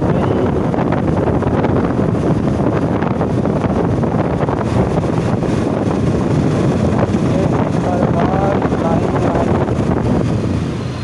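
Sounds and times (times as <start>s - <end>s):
motorcycle engine running: 0.0s - 11.0s
wind buffeting microphone: 0.0s - 11.0s.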